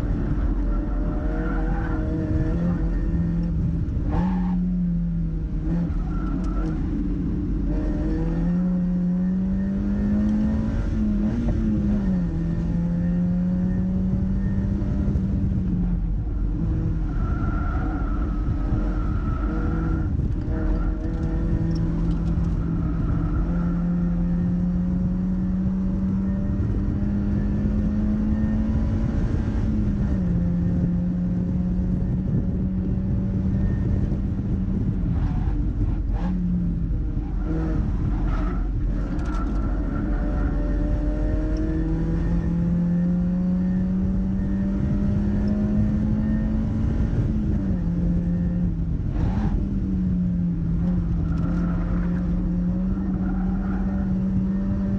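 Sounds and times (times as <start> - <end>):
car engine pulling hard: 0.0 - 54.9
wind and tyre noise: 0.0 - 54.9.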